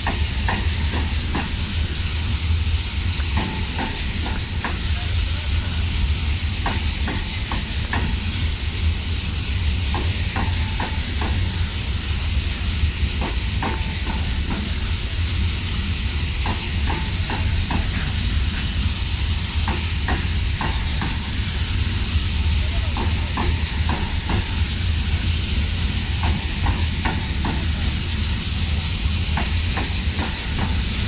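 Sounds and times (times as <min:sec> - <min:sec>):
freight train rumble and hiss: 0:00.0 - 0:31.0.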